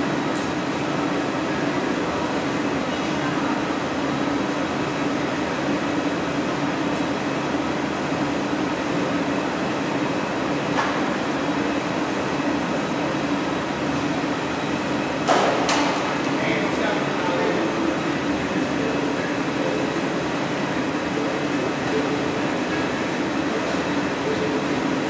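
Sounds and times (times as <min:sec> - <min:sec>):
gas furnaces burning: 0:00.0 - 0:25.0
ventilation fans running: 0:00.0 - 0:25.0.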